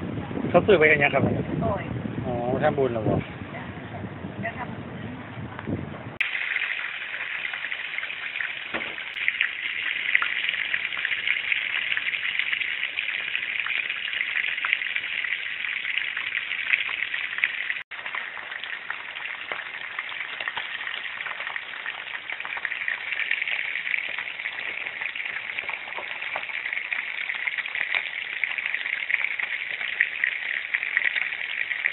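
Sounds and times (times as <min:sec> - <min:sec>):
fish sizzling in hot oil: 0:06.2 - 0:31.9
oil popping and crackling: 0:06.2 - 0:31.9.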